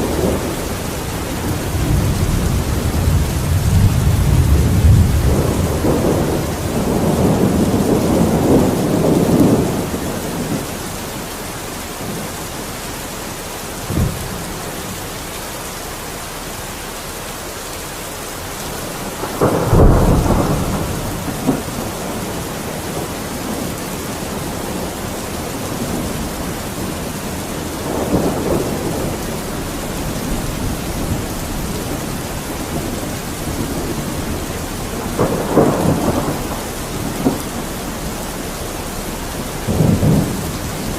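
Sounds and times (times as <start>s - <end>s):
rolling thunder: 0.0s - 10.9s, 13.8s - 15.0s, 18.6s - 40.9s
heavy rain falling: 0.0s - 40.9s.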